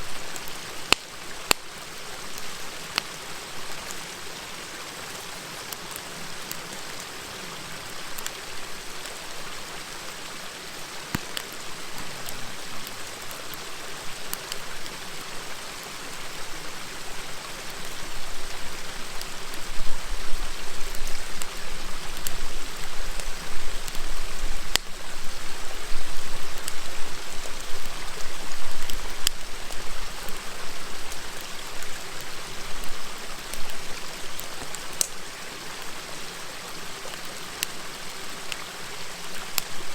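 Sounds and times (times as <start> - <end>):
campfire crackling: 0.0 - 39.9
river murmuring: 0.0 - 39.9.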